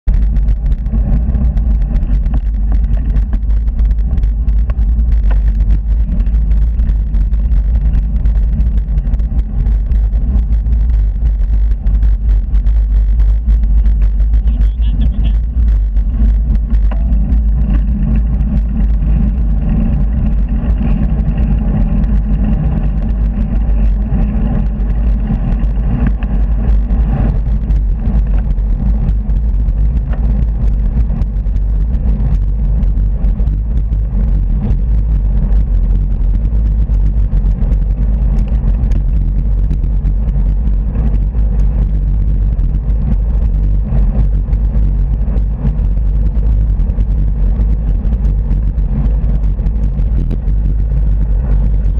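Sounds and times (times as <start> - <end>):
road rumble: 0.0 - 51.9
wind buffeting microphone: 0.0 - 51.9.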